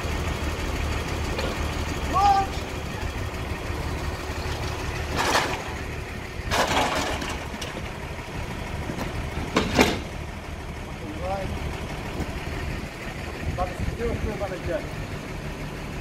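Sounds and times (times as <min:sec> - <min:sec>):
fire engine engine idling: 0:00.0 - 0:16.0.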